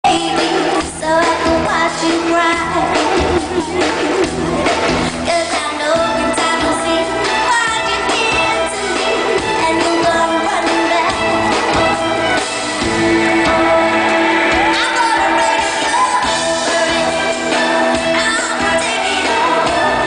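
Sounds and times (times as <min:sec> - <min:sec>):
person singing: 0:00.0 - 0:12.0, 0:13.0 - 0:20.0
live pop band playing: 0:00.0 - 0:20.0.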